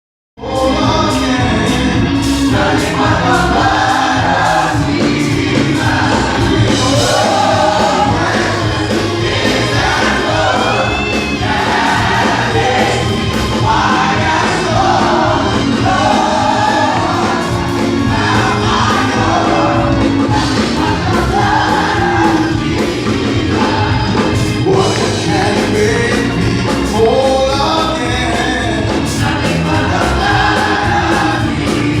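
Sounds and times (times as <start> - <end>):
choir singing gospel music: 0.4 - 32.0.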